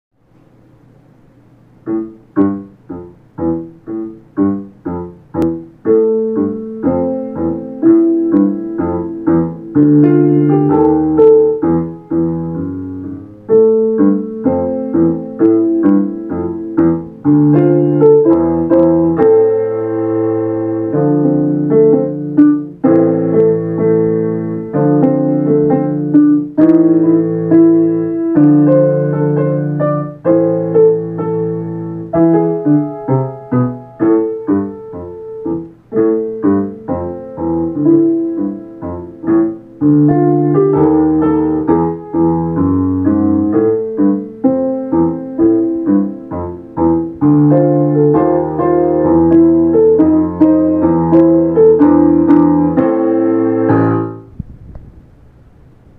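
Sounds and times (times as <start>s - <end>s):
digital piano melody: 0.4s - 54.4s.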